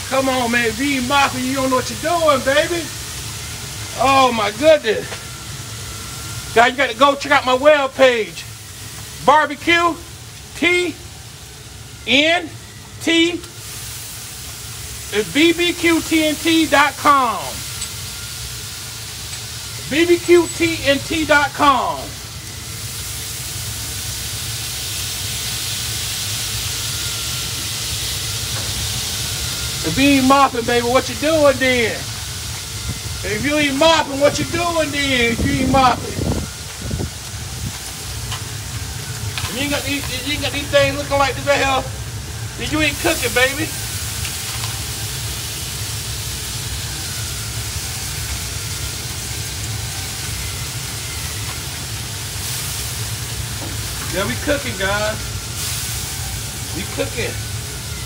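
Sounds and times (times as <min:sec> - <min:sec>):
hissing sizzle on grill: 0:00.0 - 0:58.0.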